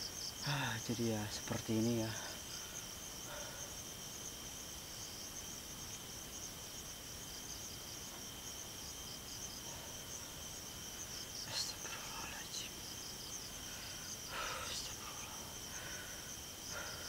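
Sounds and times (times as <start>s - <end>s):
crickets trilling: 0.0s - 17.0s
low steady insect tone: 0.0s - 17.0s.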